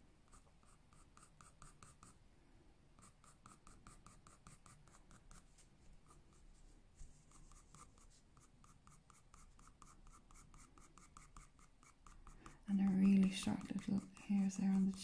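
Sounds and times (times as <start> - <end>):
pencil scratching on paper: 0.2 - 2.2, 3.0 - 6.4, 7.0 - 15.0.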